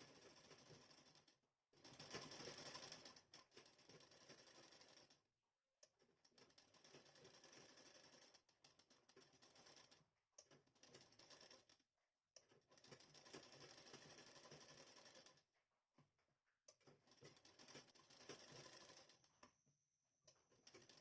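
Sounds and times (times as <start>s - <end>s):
sewing machine stitching: 0.0s - 5.2s, 6.0s - 11.8s, 12.4s - 15.4s, 16.8s - 19.4s, 20.3s - 21.0s.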